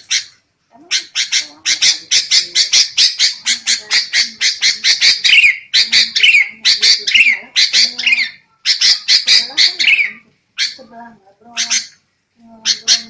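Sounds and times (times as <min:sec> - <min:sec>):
bird harsh chattering calls: 0:00.0 - 0:10.9, 0:11.5 - 0:12.0, 0:12.6 - 0:13.0.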